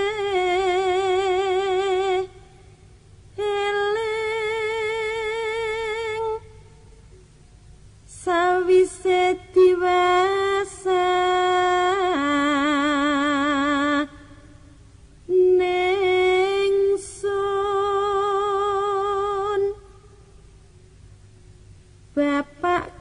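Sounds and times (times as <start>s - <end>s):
solo voice singing with vibrato: 0.0s - 2.7s, 3.3s - 7.0s, 8.1s - 14.6s, 15.2s - 20.3s, 22.1s - 23.0s.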